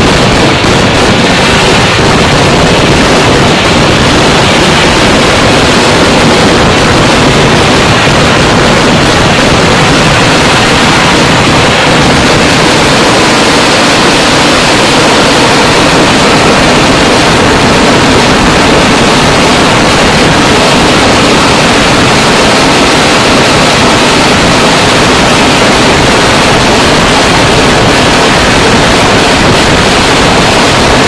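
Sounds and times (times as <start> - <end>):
fireworks barrage: 0.0 - 31.0.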